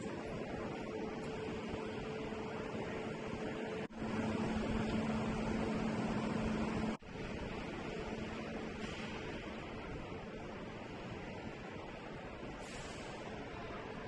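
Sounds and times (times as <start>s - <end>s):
steady running noise with hum: 0.0s - 12.6s.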